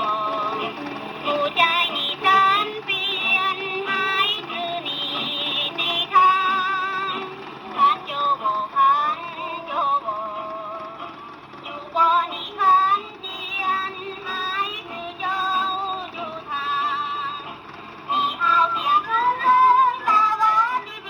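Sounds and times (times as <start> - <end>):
music with person singing: 0.0 - 21.0.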